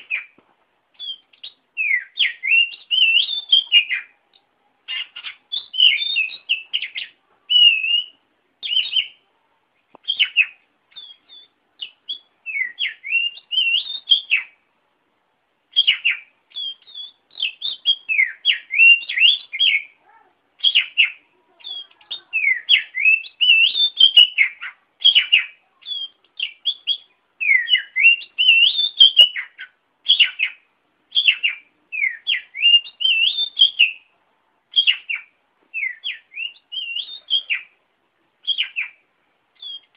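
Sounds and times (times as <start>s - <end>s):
bird singing whistled song: 0.0s - 0.4s, 1.0s - 4.2s, 4.9s - 9.2s, 10.0s - 14.6s, 15.7s - 20.0s, 20.6s - 34.1s, 34.7s - 37.8s, 38.4s - 39.0s, 39.6s - 39.9s.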